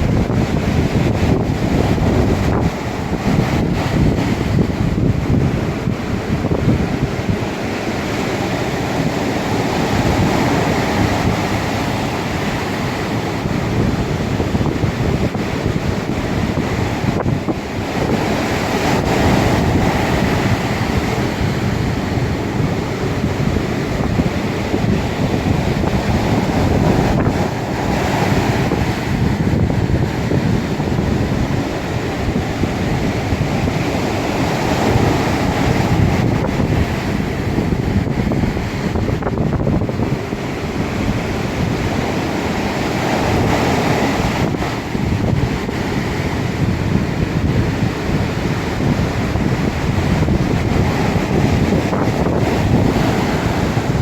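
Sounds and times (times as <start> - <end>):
ocean waves breaking: 0.0 - 54.0
wind on microphone: 0.0 - 54.0.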